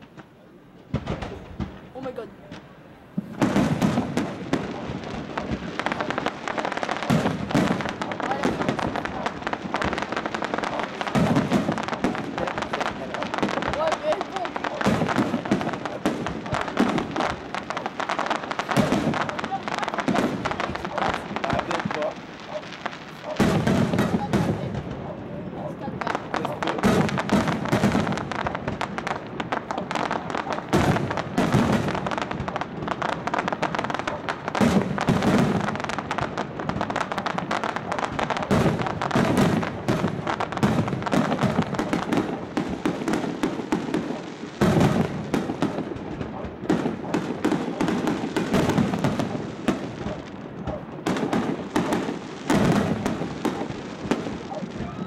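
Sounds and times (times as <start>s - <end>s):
fireworks bangs and crackling: 0.0s - 55.0s
heavy firework reports: 0.0s - 55.0s.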